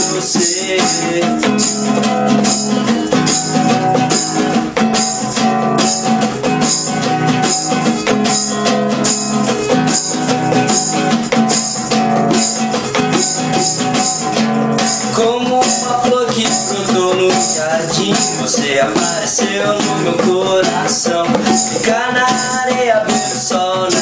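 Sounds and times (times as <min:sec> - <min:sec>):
acoustic guitar strumming: 0:00.0 - 0:24.0
bongos: 0:00.0 - 0:24.0.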